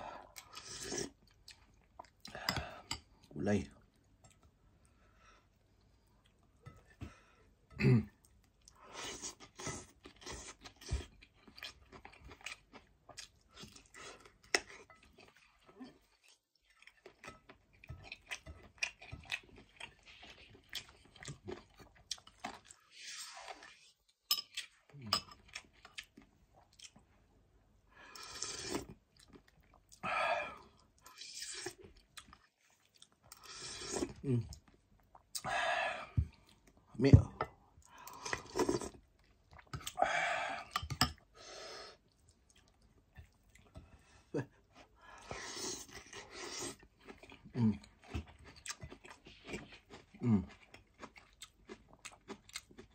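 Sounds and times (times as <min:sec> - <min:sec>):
man chewing with smacking sounds: 0:00.3 - 0:04.9, 0:08.0 - 0:27.4, 0:28.2 - 0:36.9, 0:37.6 - 0:40.0, 0:42.0 - 0:52.9.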